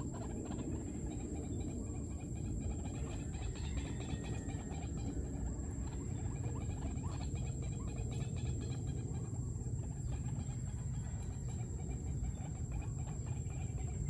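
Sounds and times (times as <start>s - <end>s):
bird soft clucking calls: 0.0s - 14.0s
low background rumble: 0.0s - 14.0s.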